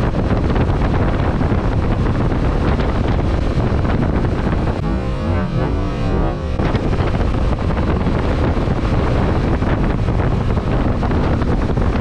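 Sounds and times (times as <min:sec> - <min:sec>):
motorcycle engine: 0:00.0 - 0:11.6
road noise: 0:00.0 - 0:12.0
wind noise on microphone: 0:00.0 - 0:12.0.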